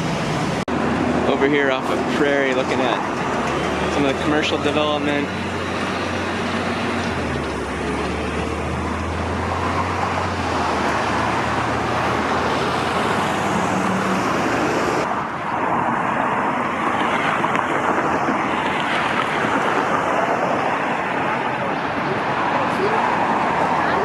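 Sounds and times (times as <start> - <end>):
tyres rushing on road: 0.0 - 24.0
vehicle engine hum: 0.0 - 24.0.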